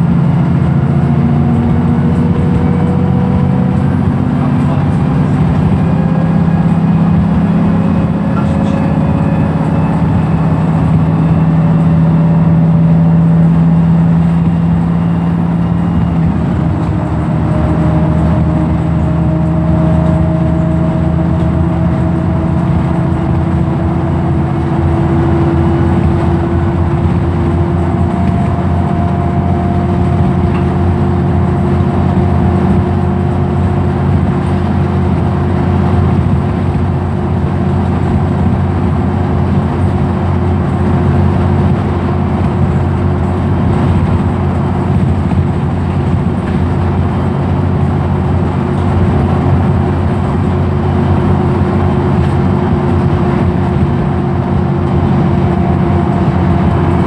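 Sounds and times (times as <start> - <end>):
bus engine drone and whine: 0.0 - 57.0.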